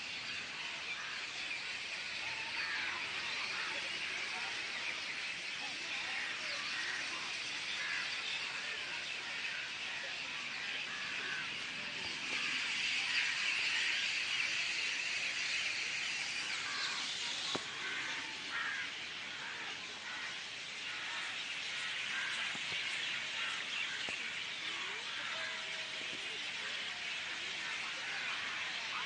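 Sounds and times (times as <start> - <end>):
birds chirping and singing: 0.0 - 29.0.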